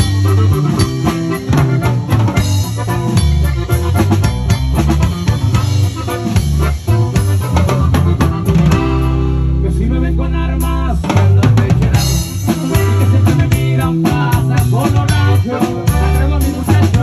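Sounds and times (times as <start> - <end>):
drum kit beat: 0.0 - 9.9, 10.6 - 17.0
live band playing: 0.0 - 17.0.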